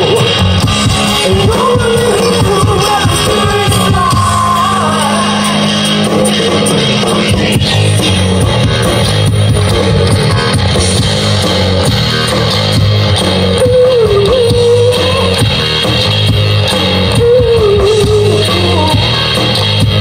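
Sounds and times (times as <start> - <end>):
electric guitars: 0.0 - 20.0
live rock band playing: 0.0 - 20.0.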